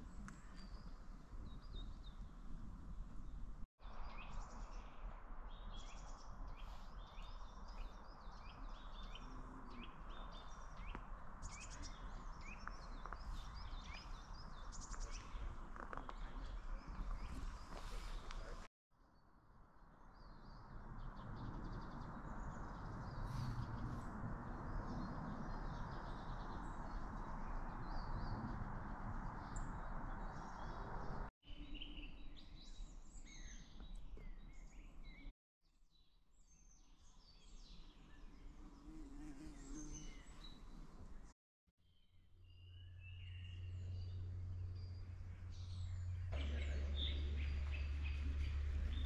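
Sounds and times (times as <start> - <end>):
songbirds chirping: 0.0 - 18.7, 20.1 - 35.3, 35.9 - 49.0.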